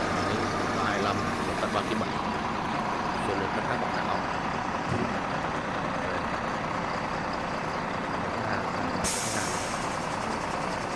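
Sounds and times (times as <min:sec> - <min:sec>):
engine running: 0:00.0 - 0:10.9.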